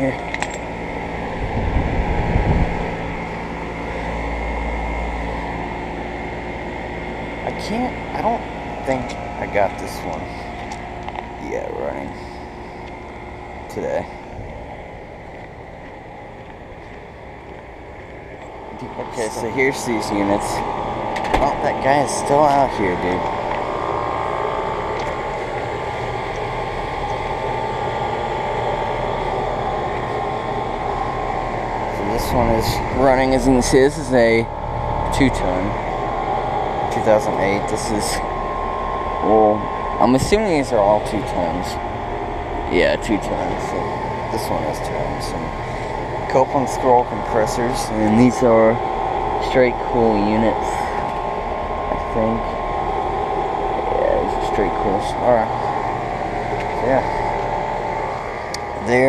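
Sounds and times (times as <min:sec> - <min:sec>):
air conditioner humming: 0:00.0 - 0:59.0
low rumbling: 0:00.0 - 0:59.0.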